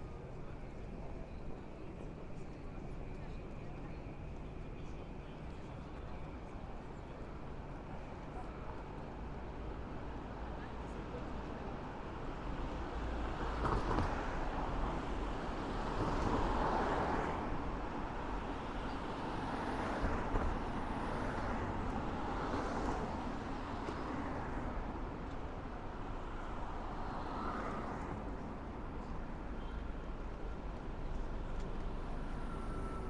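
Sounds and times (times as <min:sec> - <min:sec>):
traffic engines and tyres hum: 0:00.0 - 0:33.0.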